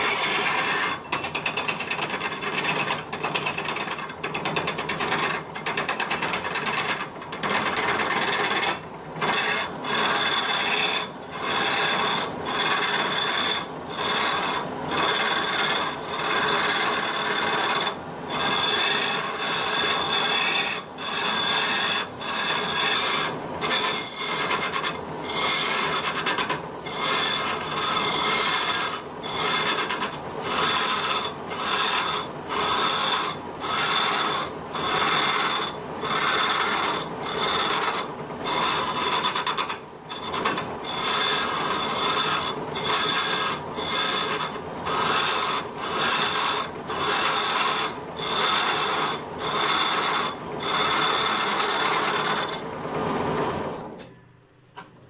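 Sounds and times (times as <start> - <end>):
lathe tool scraping wood: 0.0 - 53.8.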